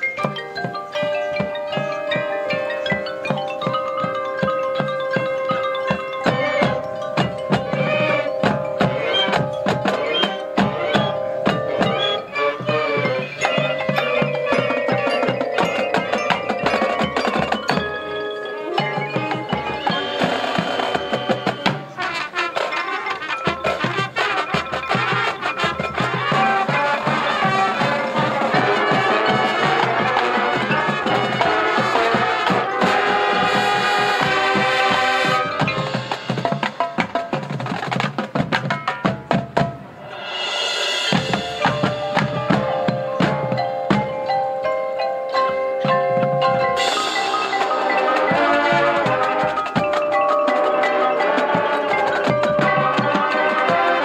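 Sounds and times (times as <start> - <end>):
snare drums: 0.0 - 44.4, 45.4 - 54.0
mallet percussion: 0.0 - 54.0
marching band playing: 0.0 - 54.0.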